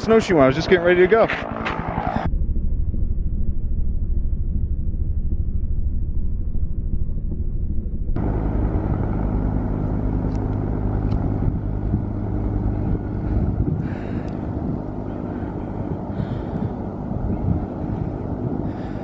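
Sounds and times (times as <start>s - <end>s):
helicopter drone: 0.0s - 5.3s, 8.0s - 19.0s.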